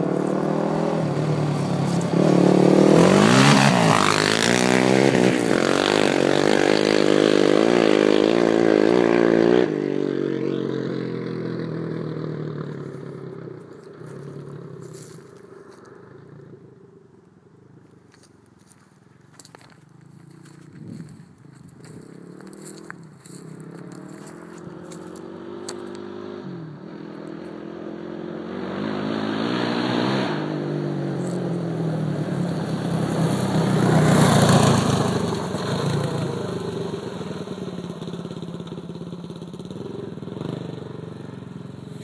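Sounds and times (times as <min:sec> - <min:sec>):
quad engine accelerating past: 0:00.0 - 0:17.0, 0:19.9 - 0:42.0.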